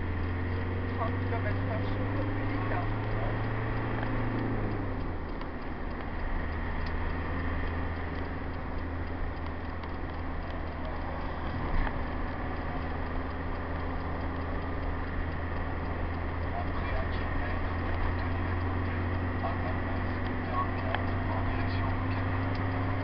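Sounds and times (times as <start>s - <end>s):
engine and road drone: 0.0s - 23.0s
light ticking: 0.0s - 23.0s.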